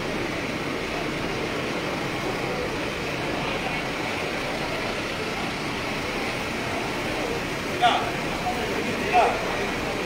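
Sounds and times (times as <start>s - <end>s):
crowded station hall din: 0.0s - 10.0s.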